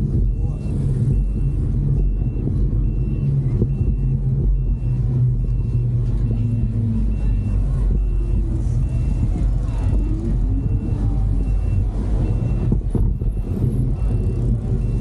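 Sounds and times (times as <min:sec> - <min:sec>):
motor vehicle rumble: 0:00.0 - 0:15.0
high-pitched beep: 0:00.1 - 0:15.0.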